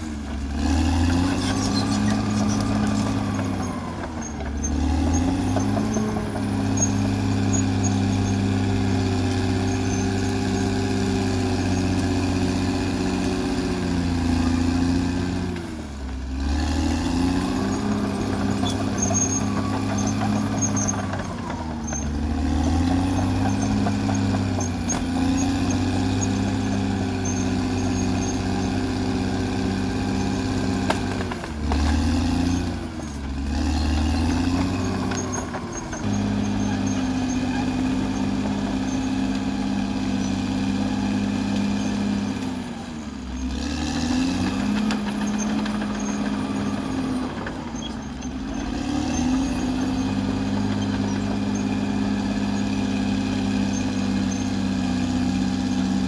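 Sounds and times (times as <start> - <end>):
bulldozer diesel engine working: 0.0 - 56.0.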